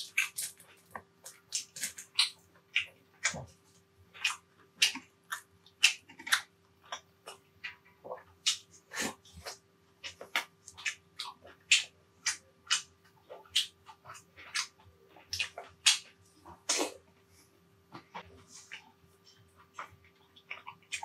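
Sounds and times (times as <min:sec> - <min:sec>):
chewing and lip-smacking: 0:00.0 - 0:17.1, 0:17.9 - 0:21.0.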